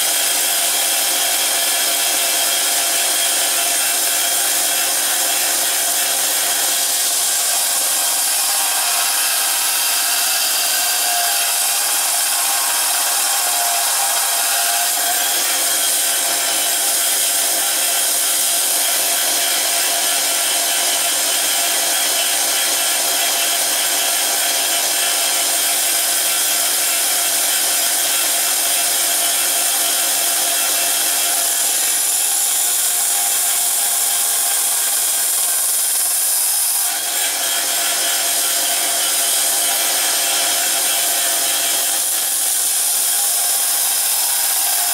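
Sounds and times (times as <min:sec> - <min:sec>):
belt sander running: 0:00.0 - 0:44.9
blade grinding on belt: 0:00.0 - 0:44.9.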